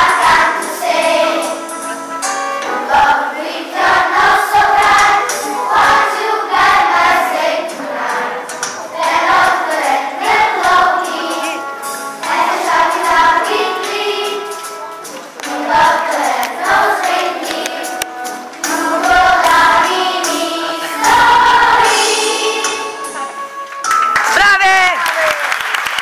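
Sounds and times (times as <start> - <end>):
choir singing christmas song: 0.0 - 23.4
instrumental backing: 0.0 - 24.9.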